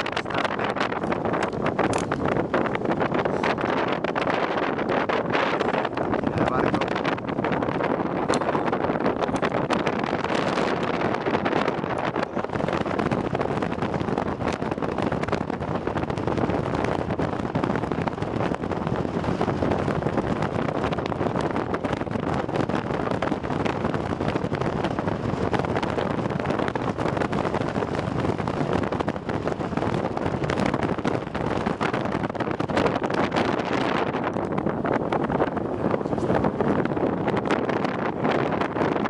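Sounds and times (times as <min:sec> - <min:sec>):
ship running noise: 0:00.0 - 0:39.0
wind buffeting microphone: 0:00.0 - 0:39.0.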